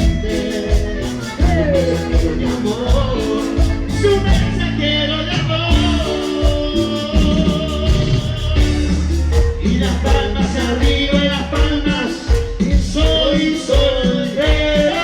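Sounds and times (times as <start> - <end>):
live band playing latin dance music: 0.0 - 15.0.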